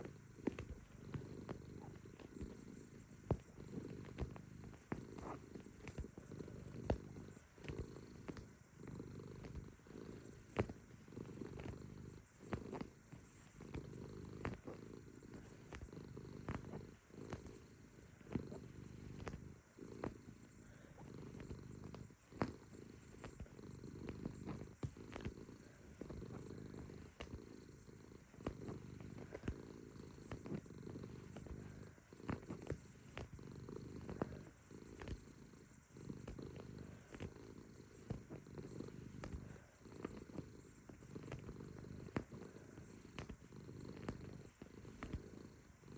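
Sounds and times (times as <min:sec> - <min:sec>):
cat purring: 0:00.0 - 0:45.9
paws kneading clicks: 0:00.0 - 0:45.9.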